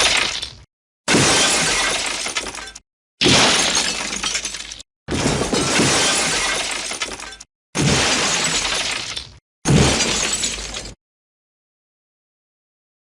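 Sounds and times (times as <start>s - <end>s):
falling glass debris: 0.0s - 11.0s
glass shattering: 0.0s - 11.0s.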